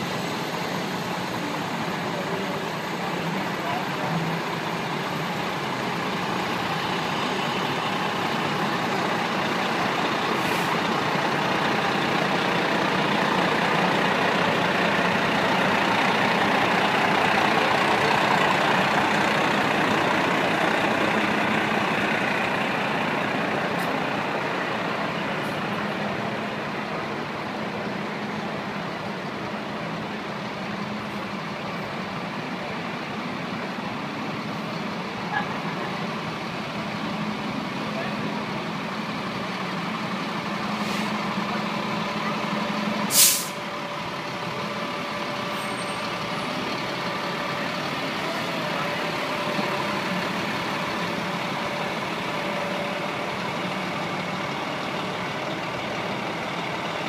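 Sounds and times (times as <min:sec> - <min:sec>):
truck engine rumbling past: 0:00.0 - 0:57.0.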